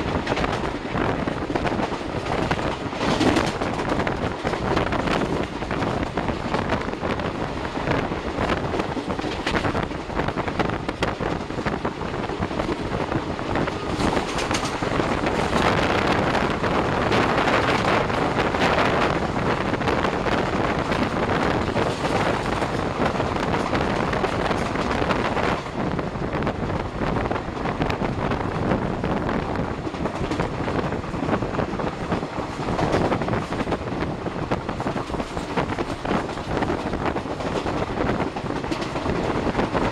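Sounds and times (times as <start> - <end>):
passing train rushing by: 0.0 - 39.9
train wheels rumbling on track: 0.0 - 39.9
wind on microphone: 0.0 - 39.9.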